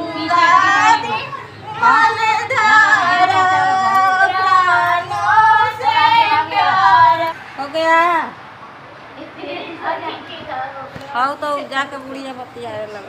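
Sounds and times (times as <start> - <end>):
women singing unaccompanied: 0.0 - 8.4, 9.2 - 13.0.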